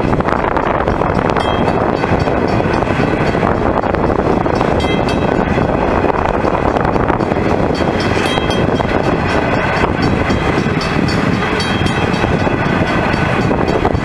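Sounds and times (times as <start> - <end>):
high-pitched ringing tones: 0.0 - 14.0
train wheels rumbling on rails: 0.0 - 14.0.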